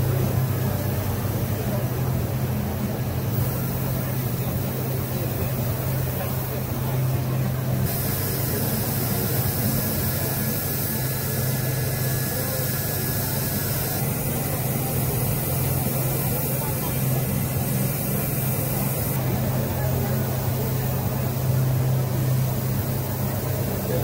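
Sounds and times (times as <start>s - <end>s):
workshop machinery humming: 0.0s - 24.0s.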